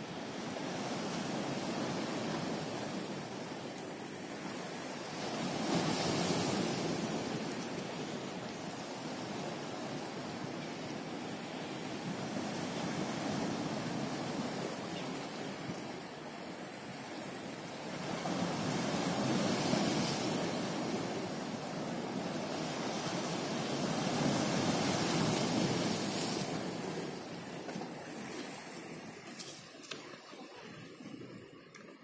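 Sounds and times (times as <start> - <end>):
sea waves washing ashore: 0.0 - 32.0.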